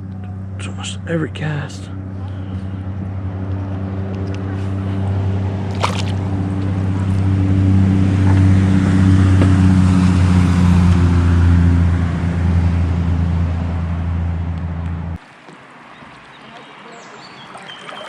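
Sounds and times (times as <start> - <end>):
small boat motor running: 0.0 - 15.2.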